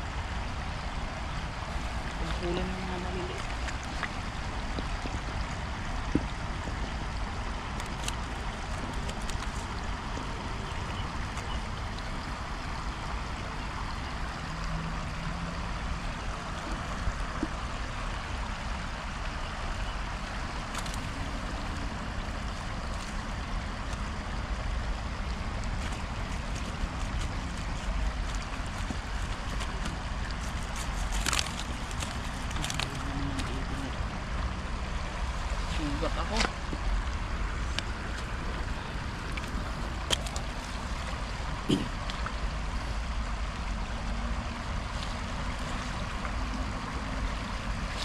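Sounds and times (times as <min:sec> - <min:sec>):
river rushing over stones: 0:00.0 - 0:48.0.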